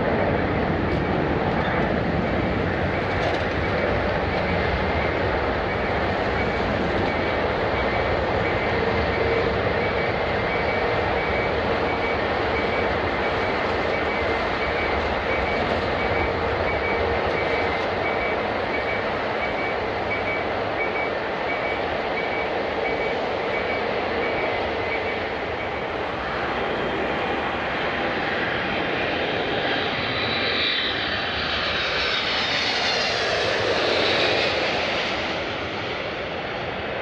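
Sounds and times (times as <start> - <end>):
jet airliner engine noise: 0.0 - 37.0.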